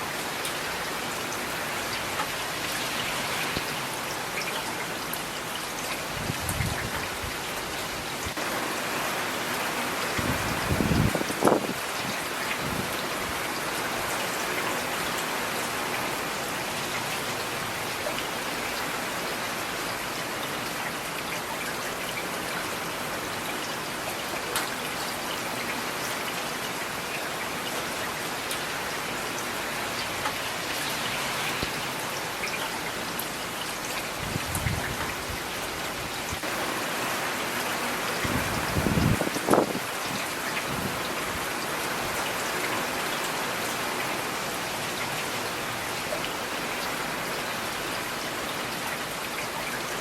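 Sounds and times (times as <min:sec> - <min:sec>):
rain on hard surfaces: 0:00.0 - 0:50.0.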